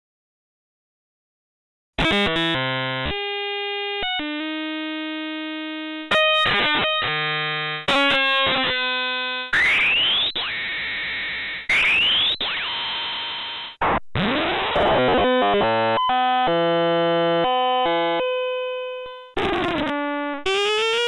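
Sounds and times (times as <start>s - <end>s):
buzzy synthesizer tones: 2.0s - 21.0s.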